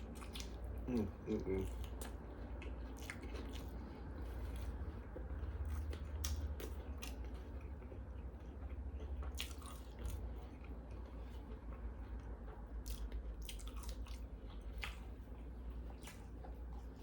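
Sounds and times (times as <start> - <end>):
steady low hum: 0.0 - 17.0
wet chewing sounds: 0.0 - 17.0.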